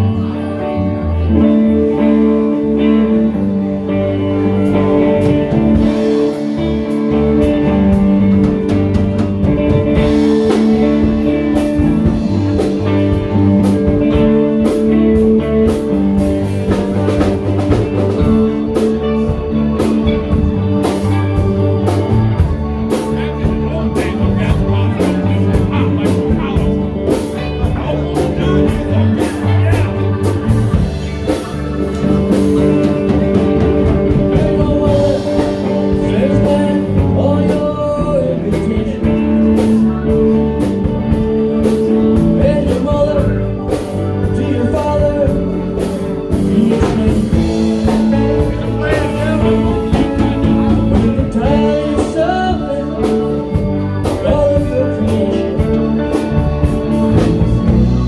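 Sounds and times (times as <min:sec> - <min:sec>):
live band playing: 0:00.0 - 0:58.0
person singing: 0:00.0 - 0:58.0.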